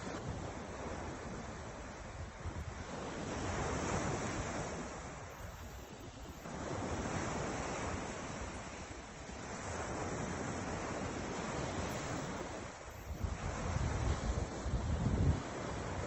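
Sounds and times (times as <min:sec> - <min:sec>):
ocean surf washing ashore: 0:00.0 - 0:16.0.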